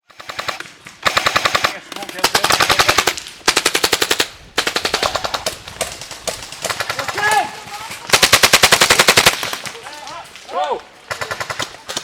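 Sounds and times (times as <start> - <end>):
airsoft guns firing full-auto: 0.0 - 12.0.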